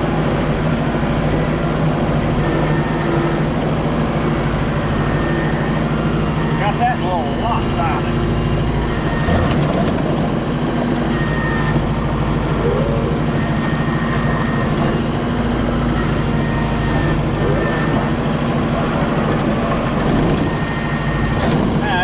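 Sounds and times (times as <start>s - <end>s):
large vehicle engine droning: 0.0s - 22.0s.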